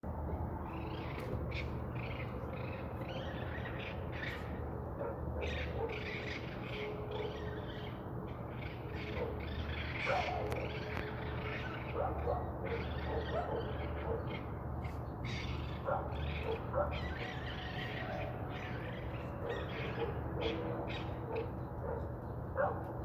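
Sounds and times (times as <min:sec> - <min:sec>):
steady low hum: 0:00.0 - 0:23.0
birds calling: 0:00.6 - 0:23.0.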